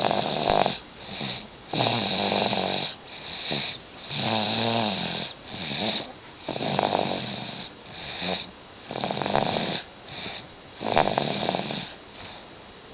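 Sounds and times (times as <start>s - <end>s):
baby snoring: 0.0s - 12.4s.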